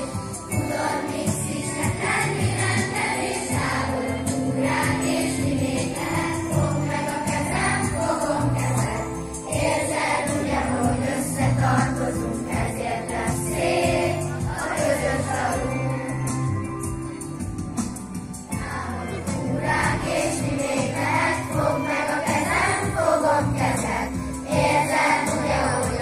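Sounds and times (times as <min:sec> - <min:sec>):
children's choir singing: 0:00.0 - 0:16.9, 0:18.5 - 0:26.0
instrumental accompaniment: 0:00.0 - 0:26.0
jingling percussion: 0:00.0 - 0:26.0.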